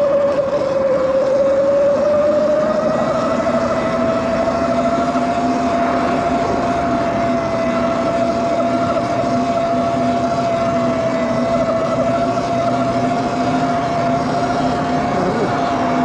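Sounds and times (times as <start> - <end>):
electric bike motor whining: 0.0 - 16.0
wind and tyre noise: 0.0 - 16.0.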